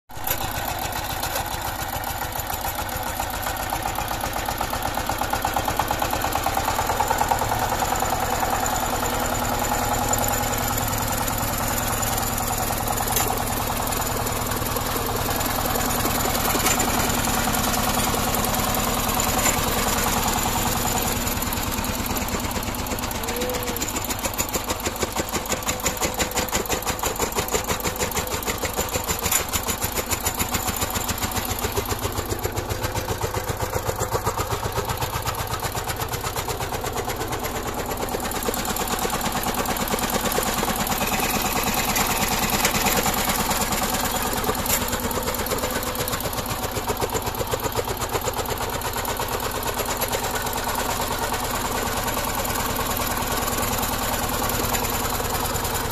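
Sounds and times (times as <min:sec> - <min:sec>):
power tiller diesel engine chugging: 0:00.1 - 0:55.9.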